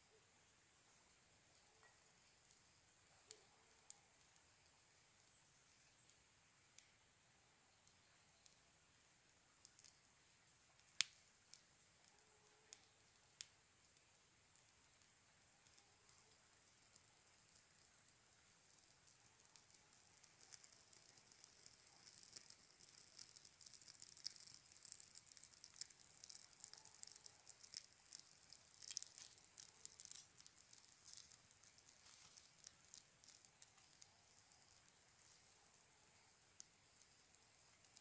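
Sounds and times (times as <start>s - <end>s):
twigs crackling in fire: 0.5s - 38.0s.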